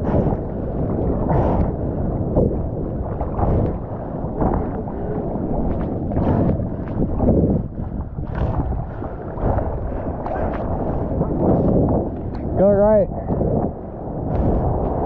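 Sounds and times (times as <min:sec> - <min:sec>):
water splashing and churning: 0:00.0 - 0:15.0.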